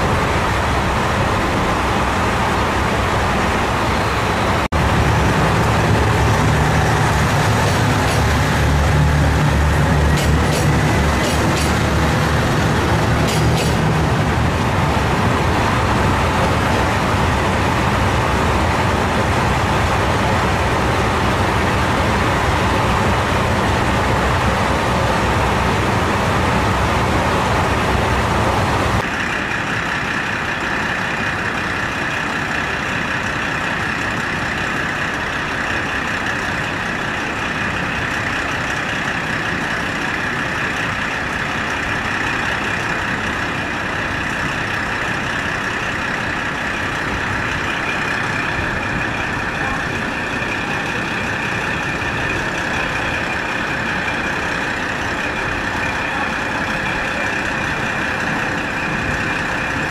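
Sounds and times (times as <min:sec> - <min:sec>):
diesel railcar engine idling: 0:00.0 - 0:59.9.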